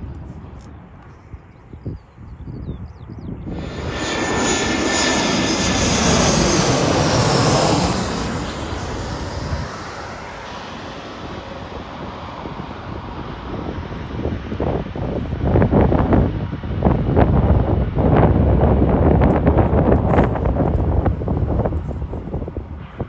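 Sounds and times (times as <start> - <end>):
jet airliner passing: 3.4 - 23.0.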